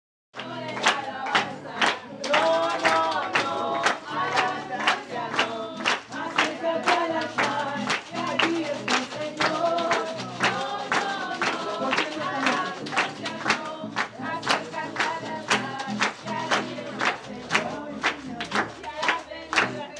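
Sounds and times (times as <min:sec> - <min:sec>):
group singing in unison: 0:00.4 - 0:19.9.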